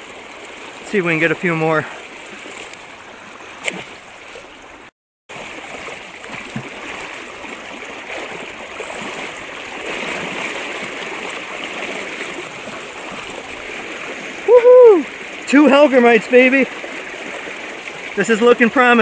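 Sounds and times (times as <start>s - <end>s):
river water rushing around legs: 0.0s - 19.0s.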